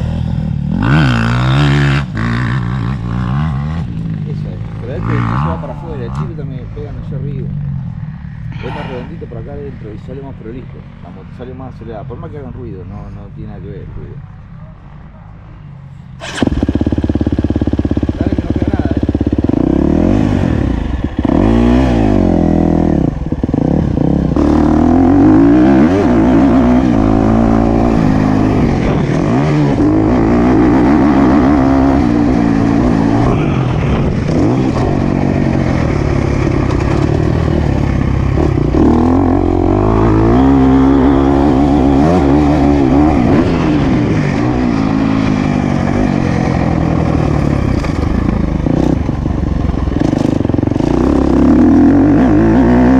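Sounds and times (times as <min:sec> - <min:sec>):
motocross bike engine revving: 0:00.0 - 0:07.6, 0:08.2 - 0:09.4, 0:16.2 - 0:52.9.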